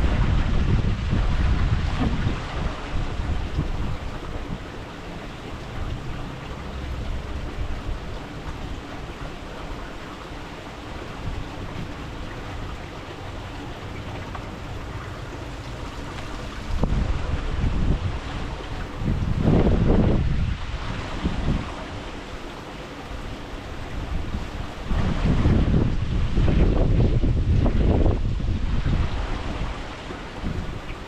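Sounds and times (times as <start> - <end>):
steady outdoor hiss: 0.0 - 31.0
wind buffeting microphone: 0.0 - 31.0.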